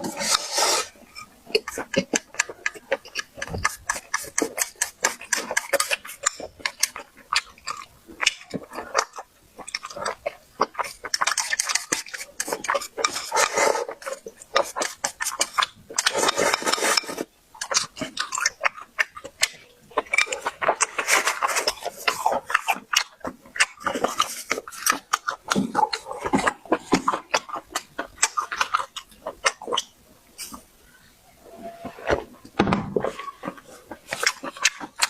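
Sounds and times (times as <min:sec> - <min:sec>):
wet chewing and lip-smacking: 0:00.0 - 0:30.7, 0:33.0 - 0:35.0.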